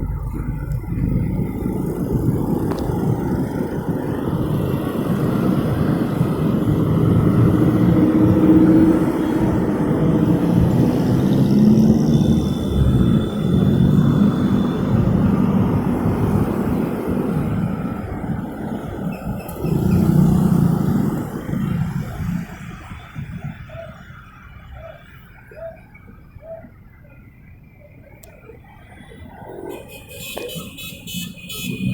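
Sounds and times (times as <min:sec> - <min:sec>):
road traffic rumble: 0:00.0 - 0:31.9.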